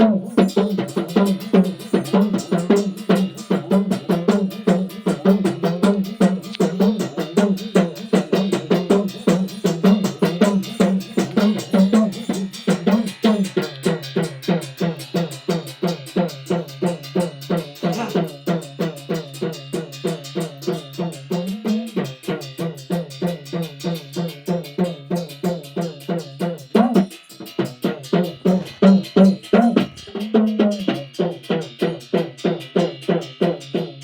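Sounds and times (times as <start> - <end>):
hand drum beaten in quick rhythm: 0.0 - 34.0.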